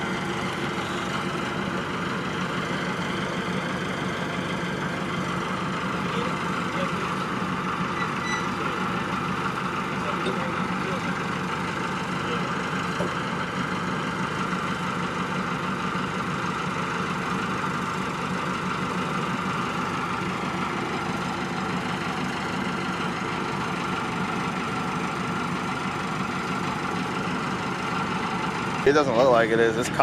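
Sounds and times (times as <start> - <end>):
forklift engine idling: 0.0 - 30.0.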